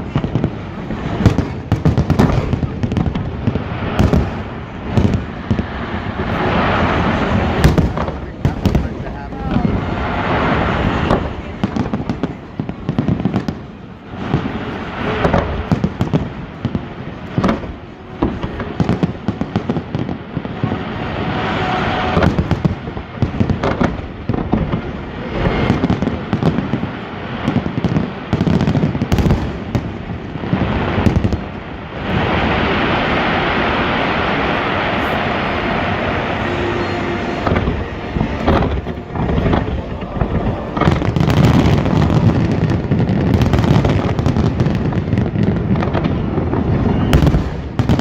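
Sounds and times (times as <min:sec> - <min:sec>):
fireworks bursting and crackling: 0:00.0 - 0:48.0
steady rushing noise: 0:00.0 - 0:48.0.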